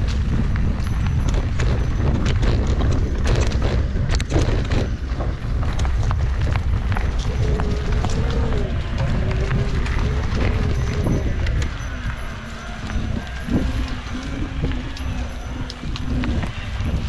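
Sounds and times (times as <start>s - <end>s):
bike rattling over dirt trail: 0.0s - 17.0s
low rumble: 0.0s - 17.0s.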